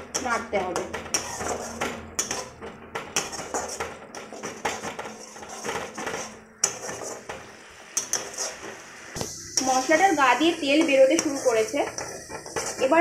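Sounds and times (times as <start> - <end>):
metal spatula scraping a pan: 0.0 - 13.0.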